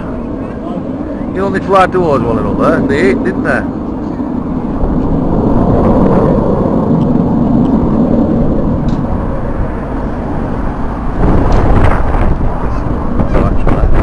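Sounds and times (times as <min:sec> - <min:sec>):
jets flying: 0:00.0 - 0:14.0.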